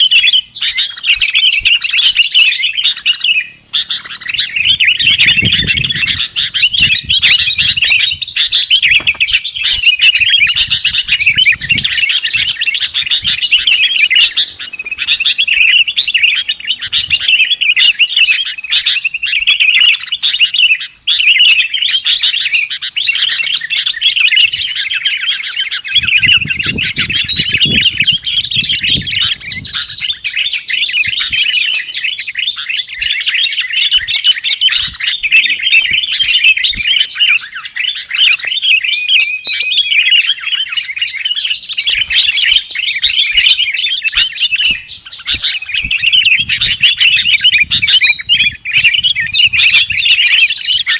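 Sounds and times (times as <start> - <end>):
birds chattering and chirping: 0.0 - 50.9.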